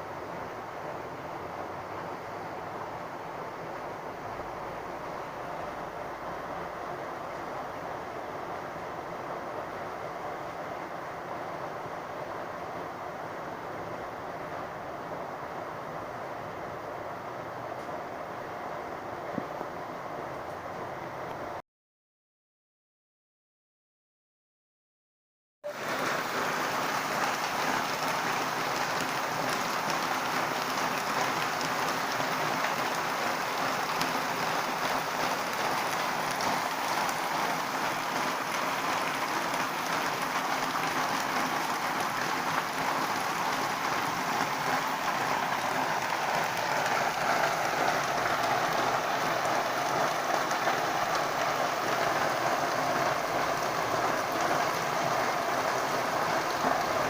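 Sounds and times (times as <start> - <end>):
heavy rain falling: 0.0 - 21.6, 25.7 - 57.0.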